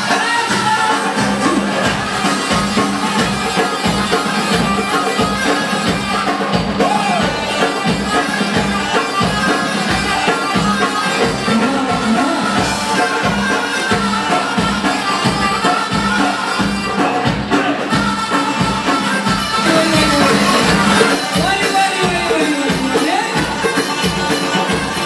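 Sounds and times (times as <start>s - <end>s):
driving drum beat: 0.0s - 25.0s.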